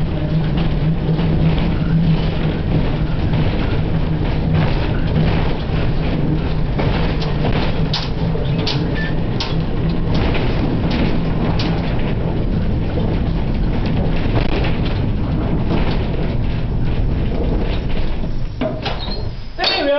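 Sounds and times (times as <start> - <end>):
rattles and clicks: 0.0 - 19.9
tram wheels and motor rumbling: 0.0 - 19.9.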